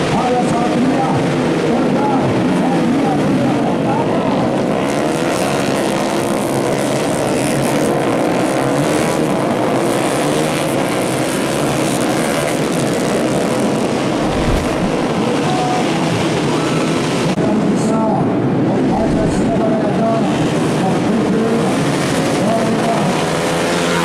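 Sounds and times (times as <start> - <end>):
motorcycles revving hard: 0.0 - 17.3, 18.8 - 24.0.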